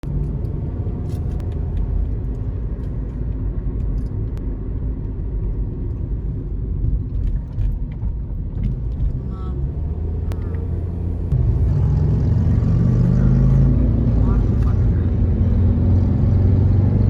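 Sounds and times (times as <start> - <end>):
vehicle cabin rumble: 0.0 - 16.6.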